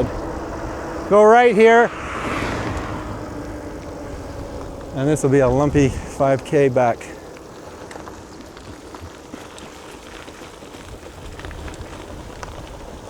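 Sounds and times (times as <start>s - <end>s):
bike tyres rolling over gravel: 0.0s - 13.0s.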